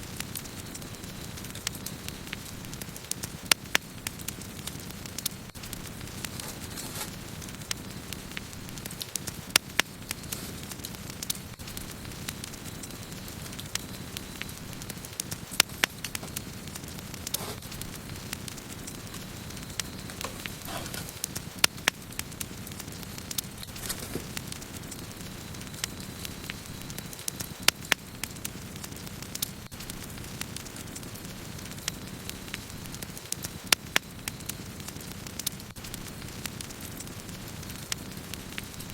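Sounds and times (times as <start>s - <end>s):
low rumble of flames: 0.0s - 38.9s
wood crackling and popping: 0.0s - 38.9s.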